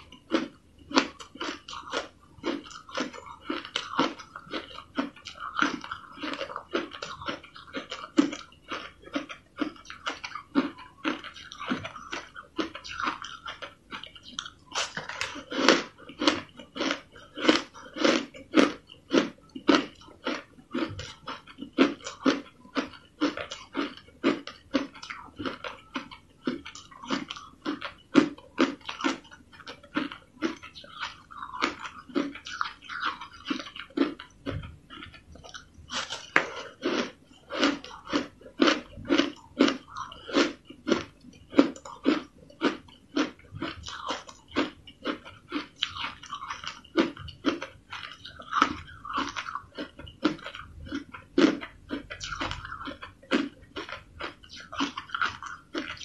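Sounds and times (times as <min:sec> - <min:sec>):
crushed ice being chewed: 0:00.0 - 0:56.0.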